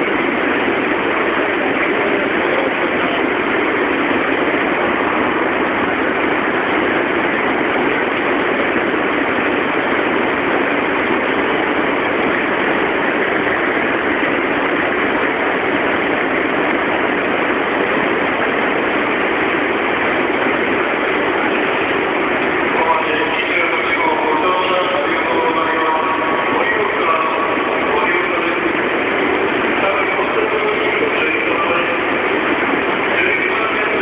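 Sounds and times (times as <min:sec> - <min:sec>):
stationary train equipment noise: 0:00.0 - 0:34.0.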